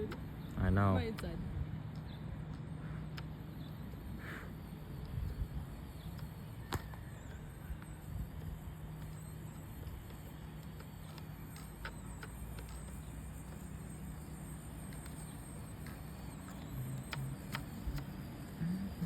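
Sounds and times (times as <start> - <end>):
small electric motors humming: 0.0 - 19.0.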